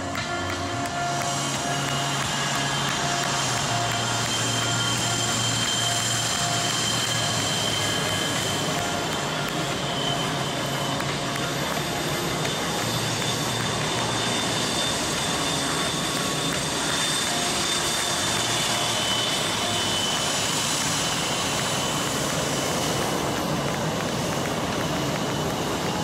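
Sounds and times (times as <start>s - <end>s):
faint high whine: 0.0s - 26.0s
jet engines running: 0.0s - 26.0s.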